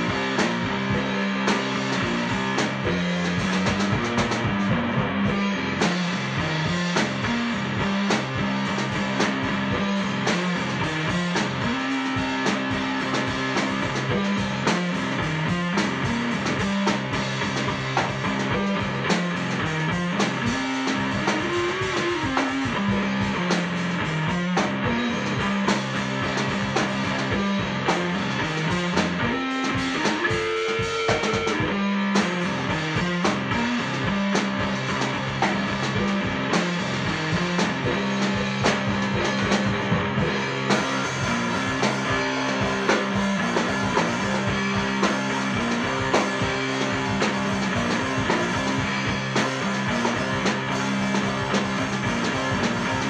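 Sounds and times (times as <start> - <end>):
rock music with guitar and drums: 0.0 - 53.0.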